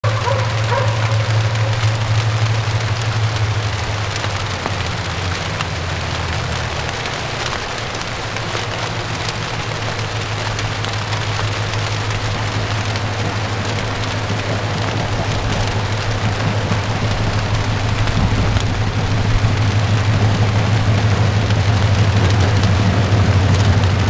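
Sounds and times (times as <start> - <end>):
crackling hiss: 0.0 - 24.0
diesel train engine drone: 0.0 - 24.0.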